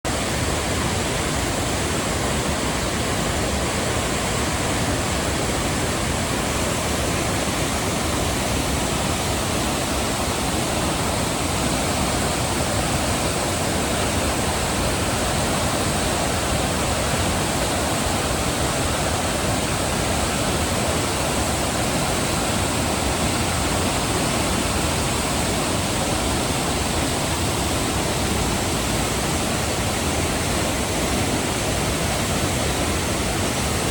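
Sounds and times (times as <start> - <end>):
river water roaring: 0.1 - 33.9.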